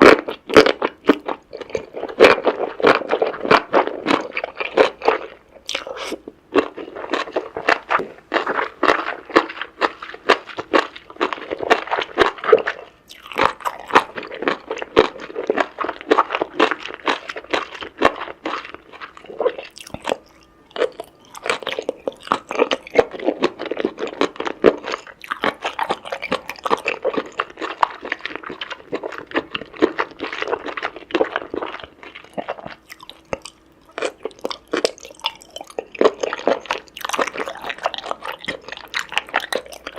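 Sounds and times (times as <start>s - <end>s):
crackly chewing and crunching: 0.0s - 39.9s.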